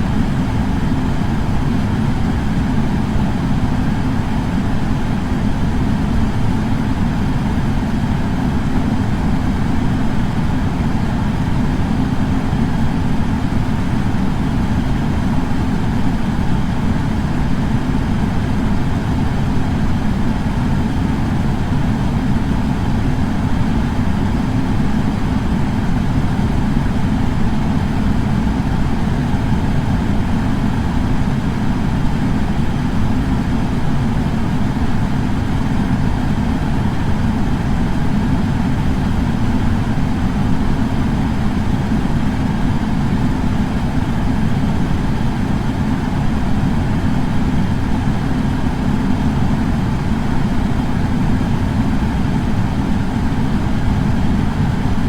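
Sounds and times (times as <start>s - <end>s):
air purifier fan running: 0.0s - 55.0s.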